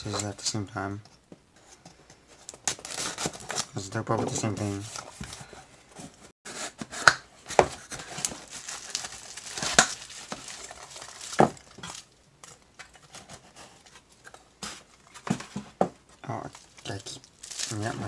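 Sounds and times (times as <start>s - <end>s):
cardboard rustling and crinkling: 2.3s - 12.1s, 12.8s - 18.0s.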